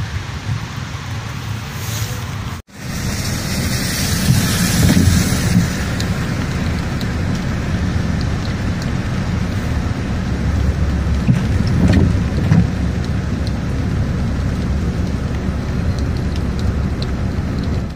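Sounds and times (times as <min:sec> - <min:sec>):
car and traffic rumble: 0:00.0 - 0:17.9
raindrops on windshield: 0:00.1 - 0:17.9.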